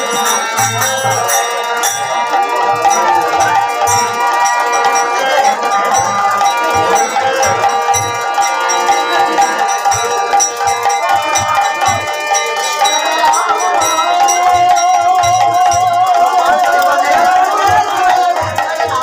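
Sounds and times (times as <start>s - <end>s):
hand drums beating: 0.0s - 19.0s
harmonium chords: 0.0s - 19.0s.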